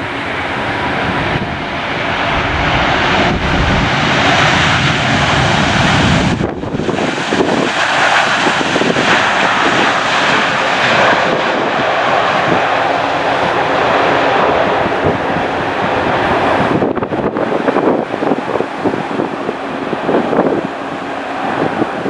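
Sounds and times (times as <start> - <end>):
airliner engines running: 0.0 - 22.0
wind buffeting microphone: 0.0 - 22.0.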